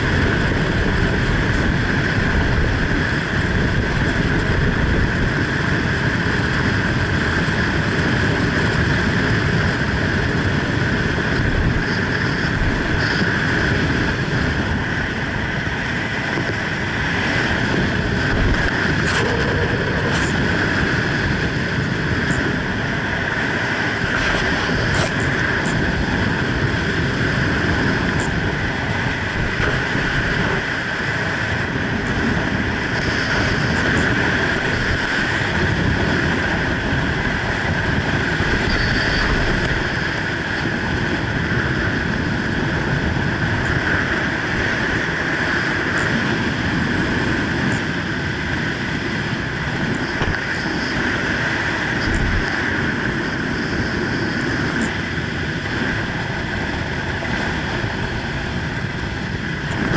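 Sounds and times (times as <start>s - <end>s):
air rushing over microphone: 0.0s - 59.9s.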